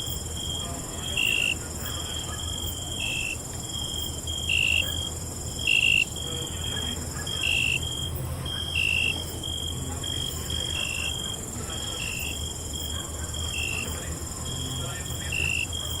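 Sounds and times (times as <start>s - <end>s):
crickets trilling: 0.0s - 16.0s
louder cricket chirps: 0.0s - 16.0s.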